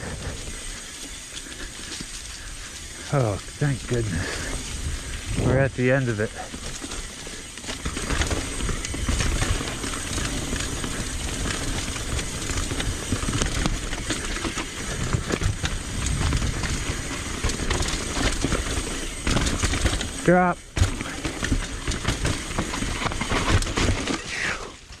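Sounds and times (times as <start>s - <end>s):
bike clicks and rattles: 0.0s - 25.0s
bike tyres rumbling on dirt: 0.0s - 25.0s.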